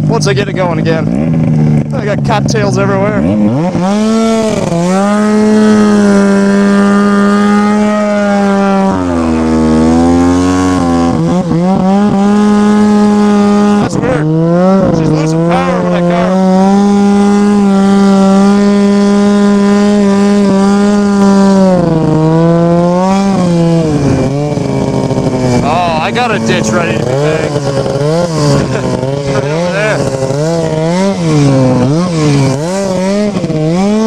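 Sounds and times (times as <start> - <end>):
snowmobile engine running hard: 0.0 - 34.0.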